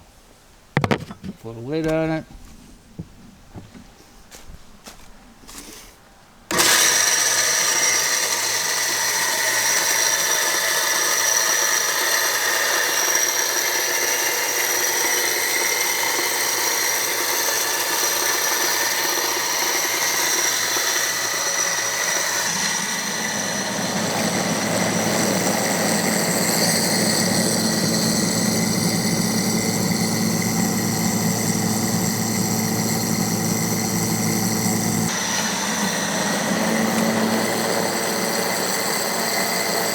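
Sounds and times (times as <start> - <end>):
corn grinding rumble: 5.4 - 39.9
electric grinder motor whining: 6.5 - 39.9.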